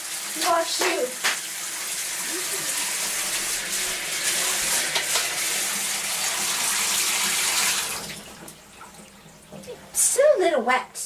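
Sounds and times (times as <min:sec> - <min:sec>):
tap water rushing: 0:00.0 - 0:10.2.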